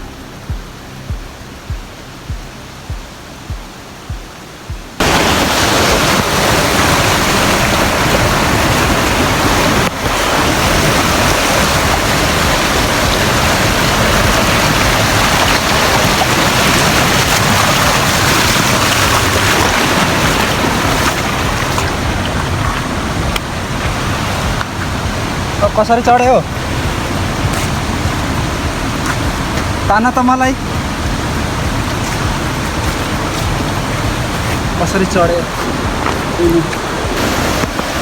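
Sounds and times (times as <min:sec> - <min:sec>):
rushing stream water: 0:00.0 - 0:38.0.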